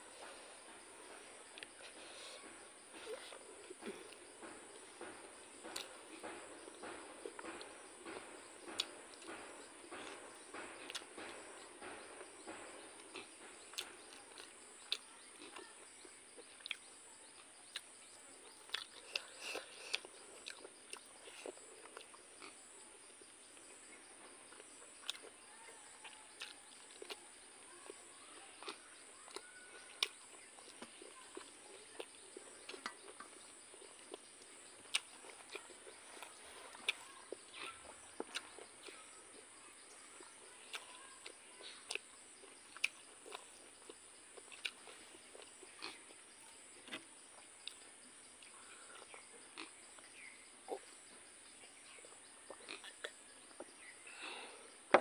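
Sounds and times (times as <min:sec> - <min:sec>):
chewing and lip-smacking: 0:00.1 - 0:51.1, 0:51.8 - 0:54.0.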